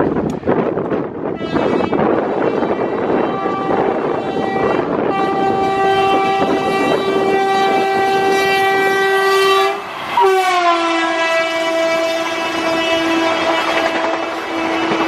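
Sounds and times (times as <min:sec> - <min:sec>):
rumble of passing train: 0:00.0 - 0:15.0
locomotive horn blast: 0:01.3 - 0:15.0.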